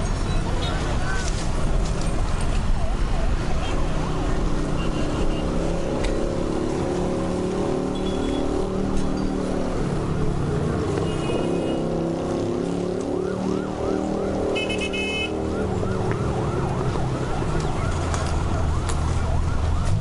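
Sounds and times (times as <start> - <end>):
traffic engine noise: 0.0 - 20.0
overlapping steady siren tones: 0.4 - 20.0
rising and falling siren: 1.2 - 20.0.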